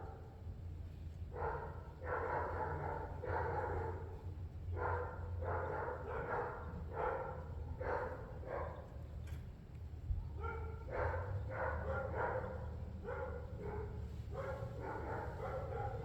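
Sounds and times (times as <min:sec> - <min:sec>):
dog barking: 0:01.3 - 0:09.0, 0:10.3 - 0:16.0.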